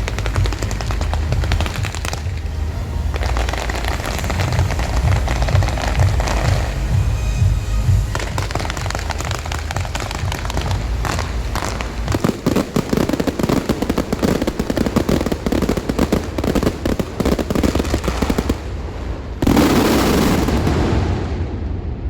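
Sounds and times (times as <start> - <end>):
fireworks crackling and banging: 0.0 - 22.0
loud rushing burst: 0.0 - 22.0.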